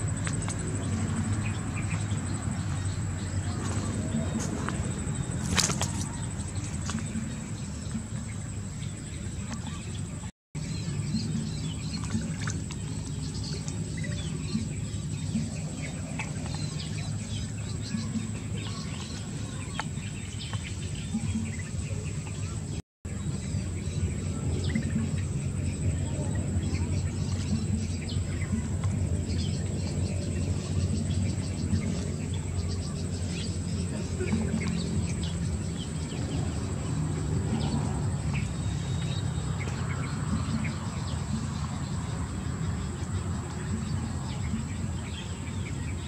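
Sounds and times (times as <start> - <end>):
high insect drone: 0.0 - 46.0
steady low rumble: 0.0 - 46.0.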